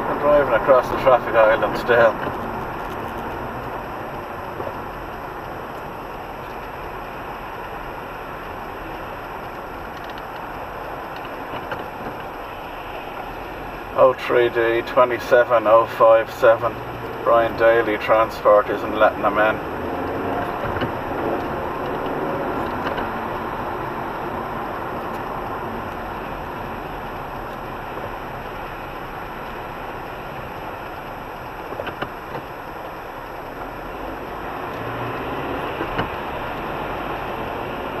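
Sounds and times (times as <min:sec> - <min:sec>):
car engine and tyre noise: 0:00.0 - 0:38.0.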